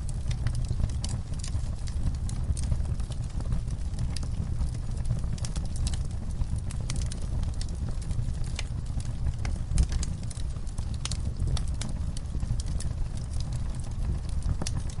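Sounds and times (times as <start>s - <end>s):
log fire crackling: 0.0s - 15.0s
low rumble of flames: 0.0s - 15.0s.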